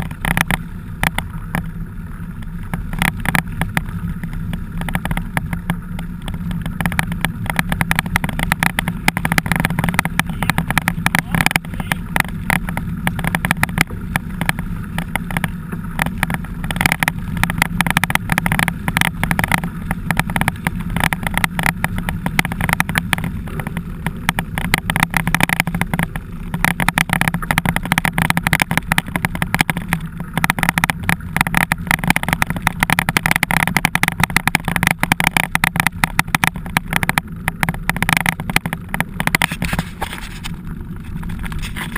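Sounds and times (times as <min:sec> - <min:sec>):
bike rattling and knocking: 0:00.0 - 0:41.9
steady low hum: 0:00.0 - 0:41.9.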